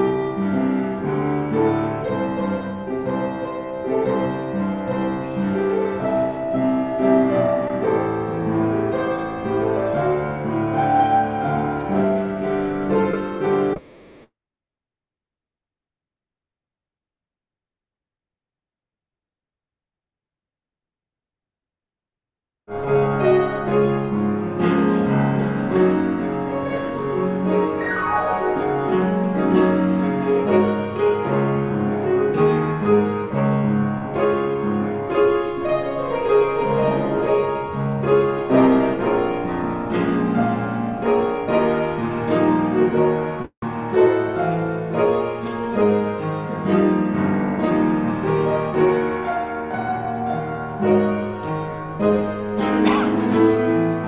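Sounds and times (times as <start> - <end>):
slow piano music: 0.0 - 13.8, 22.7 - 54.0.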